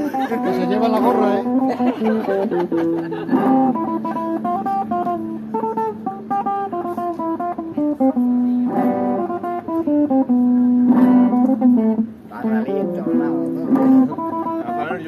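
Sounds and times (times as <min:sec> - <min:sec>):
guitar picking melody: 0:00.0 - 0:15.0
strummed guitar chords: 0:00.0 - 0:15.0.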